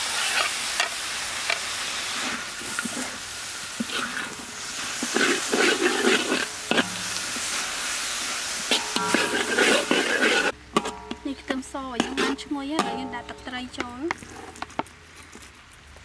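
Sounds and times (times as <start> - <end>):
food sizzling in hot oil: 0.0 - 13.2
metal spatula scraping wok: 0.0 - 14.6.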